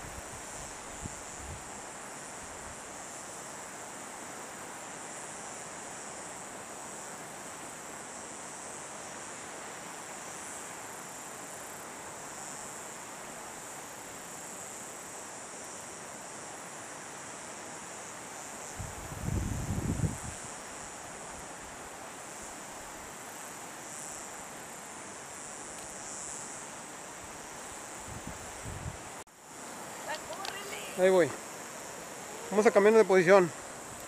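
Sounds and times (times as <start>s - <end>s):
background hiss: 0.0s - 34.0s
insect chorus: 0.0s - 34.0s.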